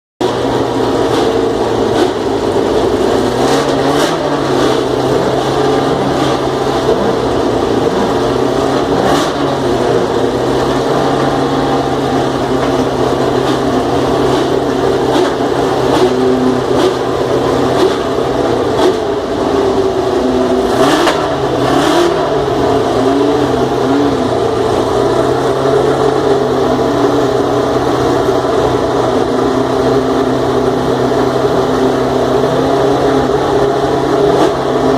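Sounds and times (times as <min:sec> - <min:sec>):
engine throttle blips: 0:00.2 - 0:34.9
racing car engine idling: 0:00.2 - 0:34.9.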